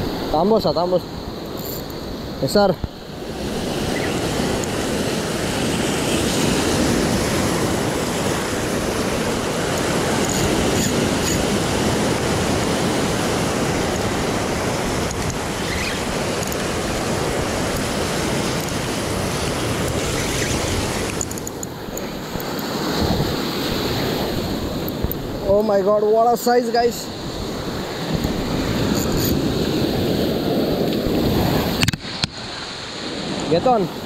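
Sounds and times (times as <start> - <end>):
sea surf breaking on rocks: 0.0 - 34.0.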